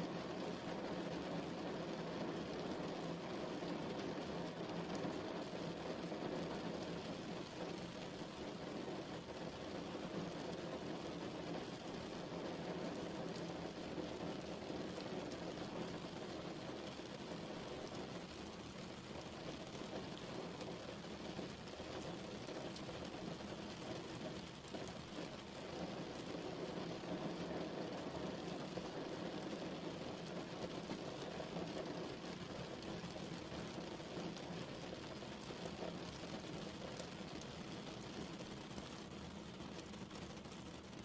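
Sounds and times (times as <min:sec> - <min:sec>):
steady rain pattering: 0:00.0 - 0:41.0.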